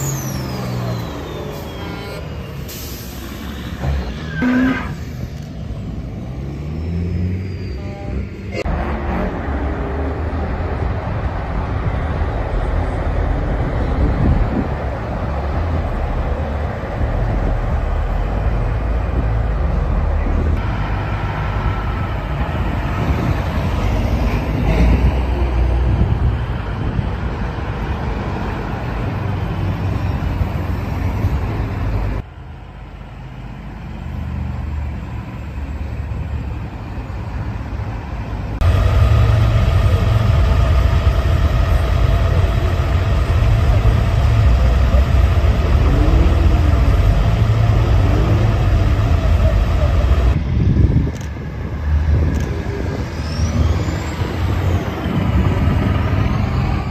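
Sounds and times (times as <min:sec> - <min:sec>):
heavy vehicle engines rumbling: 0:00.0 - 0:56.9.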